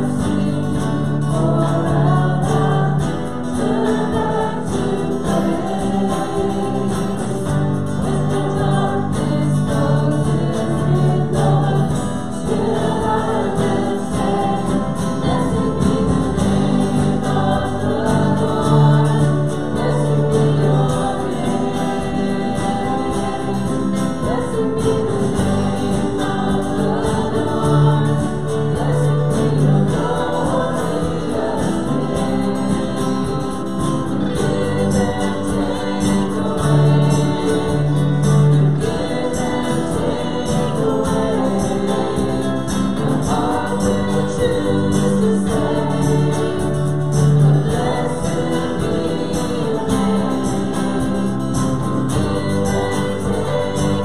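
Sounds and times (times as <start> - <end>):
group singing a hymn: 0.0 - 54.0
instrumental accompaniment: 0.0 - 54.0.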